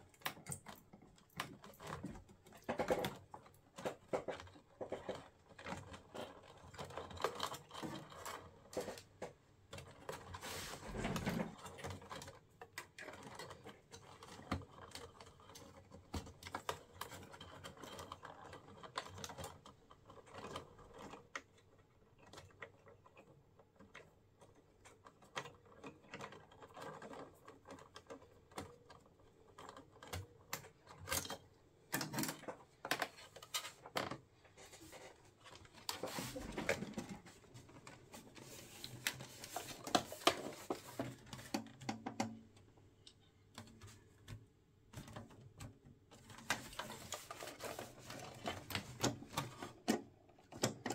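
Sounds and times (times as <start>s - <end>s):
handling wires and plastic parts: 0.0s - 50.9s.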